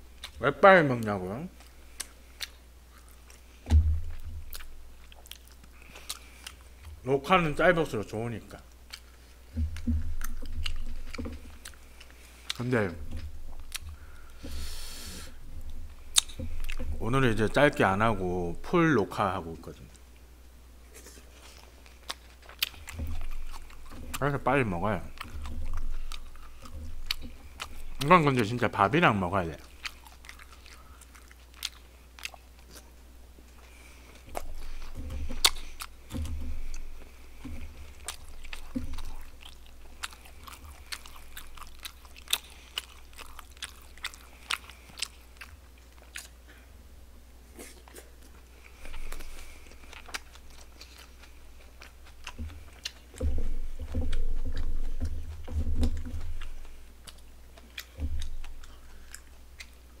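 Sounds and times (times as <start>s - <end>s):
wet chewing and mouth clicks: 0.0s - 18.8s, 19.6s - 46.7s, 47.5s - 60.0s.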